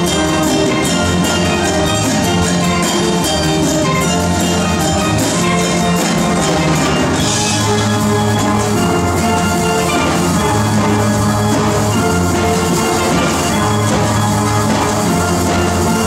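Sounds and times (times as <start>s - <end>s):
steel pan ensemble playing: 0.0s - 16.0s.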